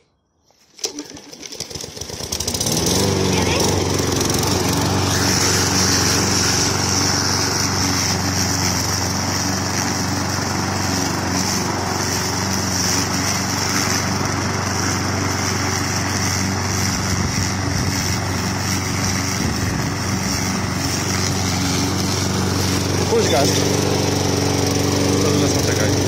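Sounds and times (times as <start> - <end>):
lawn mower running: 0.6 - 26.0.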